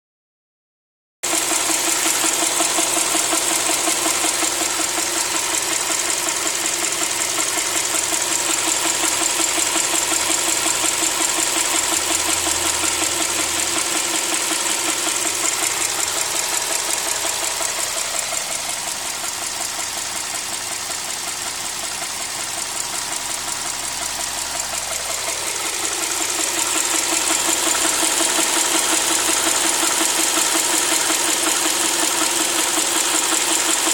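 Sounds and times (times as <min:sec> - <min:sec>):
engine running with steady knock: 0:01.2 - 0:33.9.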